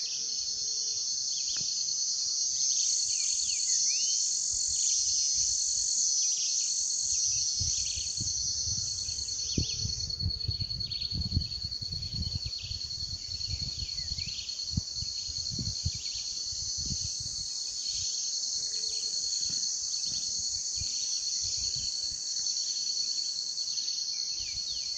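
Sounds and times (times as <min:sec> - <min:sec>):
crickets trilling: 0:00.0 - 0:24.9.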